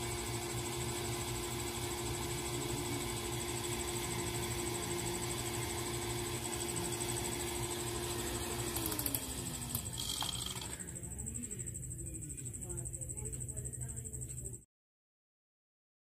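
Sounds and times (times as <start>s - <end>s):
small fan humming: 0.0s - 14.6s.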